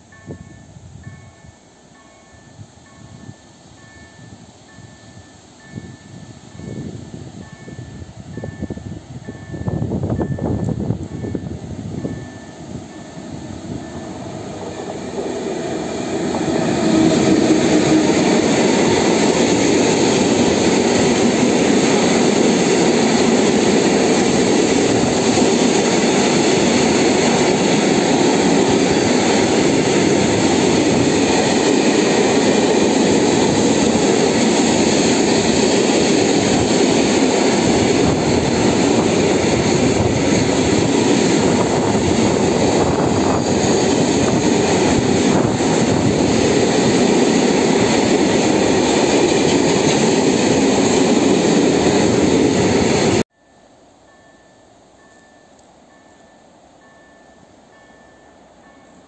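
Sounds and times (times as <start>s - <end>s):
train wheels rushing on rails: 0.0s - 53.3s.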